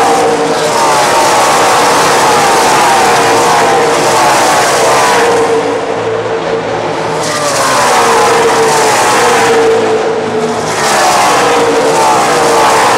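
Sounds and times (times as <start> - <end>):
race trucks passing at full throttle: 0.0 - 12.9.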